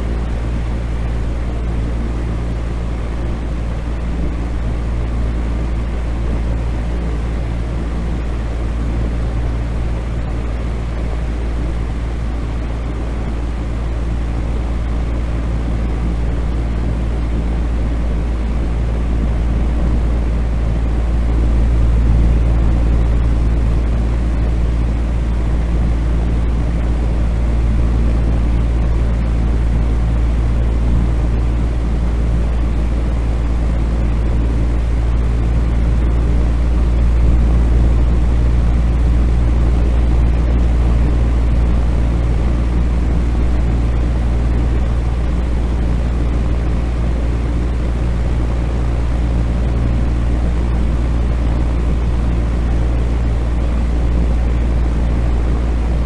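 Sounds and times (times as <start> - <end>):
ventilation fan humming: 0.0 - 56.0.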